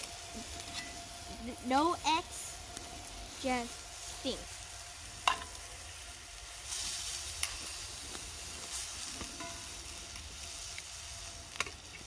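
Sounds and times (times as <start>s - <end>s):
pork sizzling in a pan: 0.0s - 12.0s.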